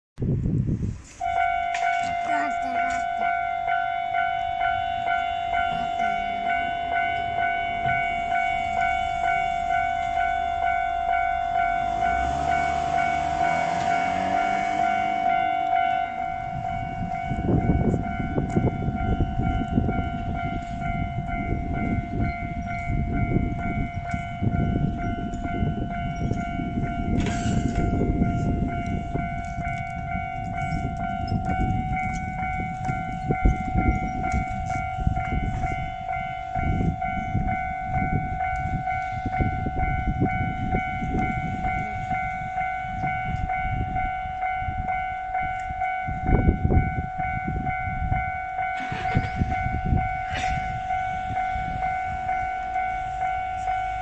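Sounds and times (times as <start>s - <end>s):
train rumble: 0.2s - 54.0s
level-crossing alarm ringing: 1.2s - 54.0s.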